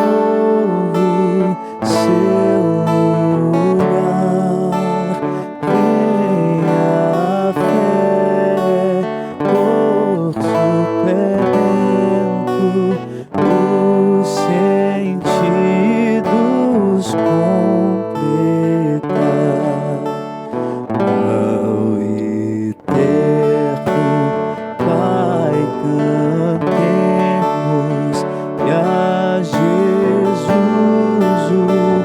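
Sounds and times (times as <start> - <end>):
acoustic guitar strumming: 0.0 - 32.0
person singing: 0.0 - 32.0.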